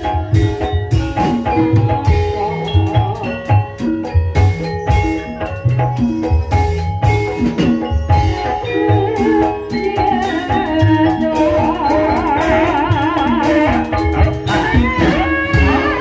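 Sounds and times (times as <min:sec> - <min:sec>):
hand drums beating: 0:00.0 - 0:16.0
ringing metallophone tones: 0:00.0 - 0:16.0
wavering high melody: 0:00.0 - 0:16.0.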